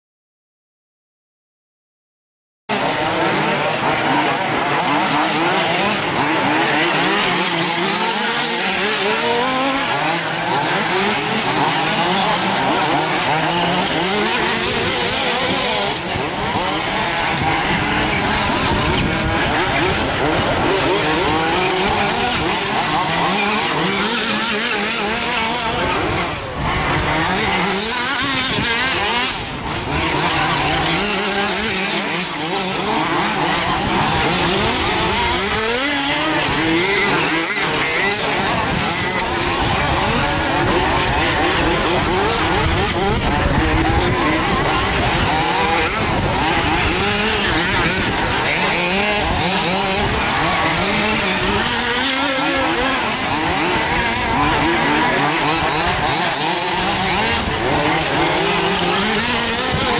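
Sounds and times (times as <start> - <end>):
model car engines revving: 2.7 - 59.9.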